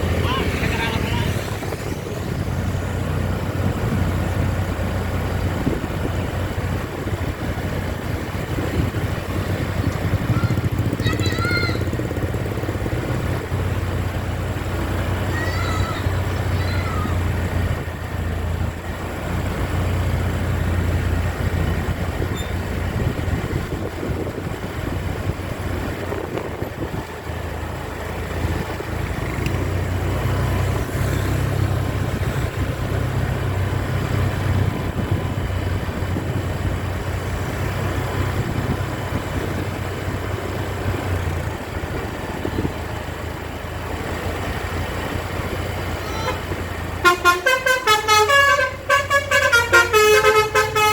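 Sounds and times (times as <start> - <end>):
bus engine rumble: 0.0 - 50.9.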